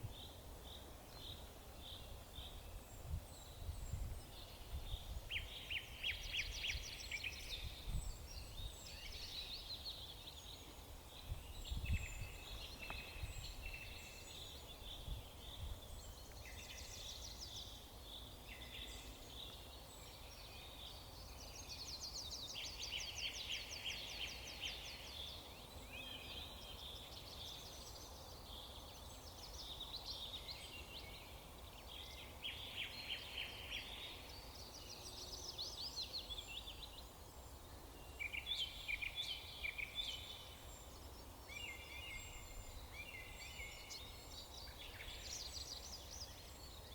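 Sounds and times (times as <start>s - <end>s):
songbirds singing and chirping: 0.0s - 46.9s.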